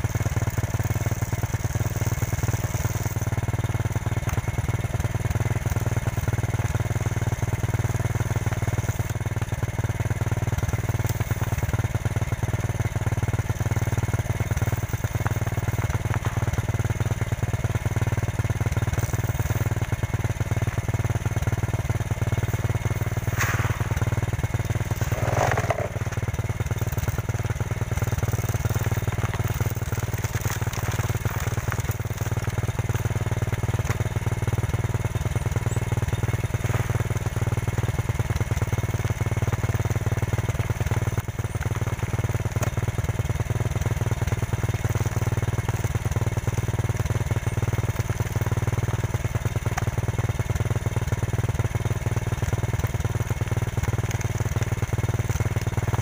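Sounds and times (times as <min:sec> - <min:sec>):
corn cobs against spinning tyre: 0:00.0 - 0:56.0
motorcycle engine running: 0:00.0 - 0:56.0.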